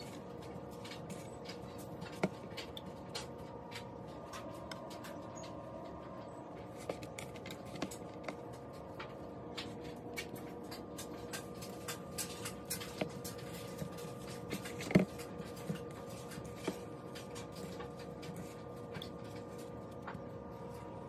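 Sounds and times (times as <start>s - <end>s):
background hum: 0.0s - 21.0s
fingers scratching in flour: 0.0s - 21.0s.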